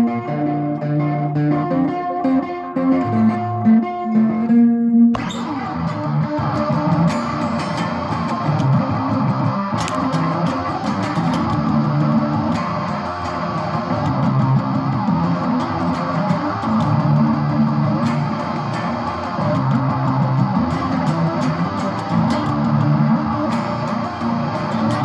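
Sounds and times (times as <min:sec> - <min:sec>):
instrumental guitar music with bass: 0:00.0 - 0:25.0.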